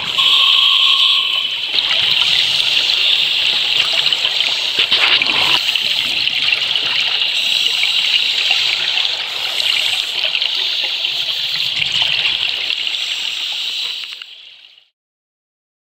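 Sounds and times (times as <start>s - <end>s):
underwater air bubbling: 0.0s - 13.3s.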